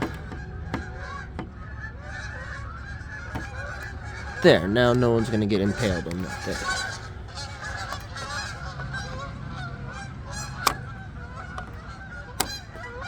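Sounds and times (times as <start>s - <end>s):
honking bird calls: 0.0s - 13.0s.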